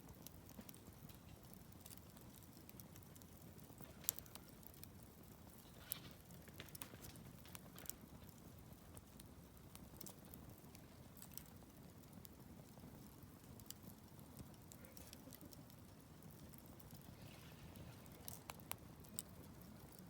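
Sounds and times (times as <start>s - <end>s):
campfire crackles and pops: 0.0s - 20.0s
low rush of flames: 0.0s - 20.0s.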